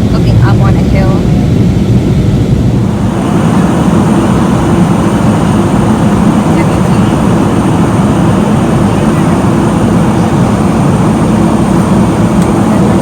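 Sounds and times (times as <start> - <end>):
jet engines rumbling: 0.0 - 13.0
low hum: 0.0 - 13.0
rushing air: 1.1 - 13.0.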